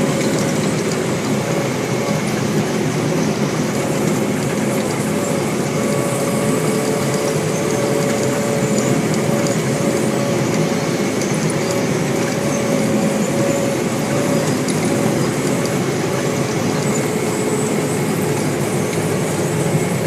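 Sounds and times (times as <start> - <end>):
cane harvester running: 0.0 - 20.0
mechanical whine: 0.0 - 20.0.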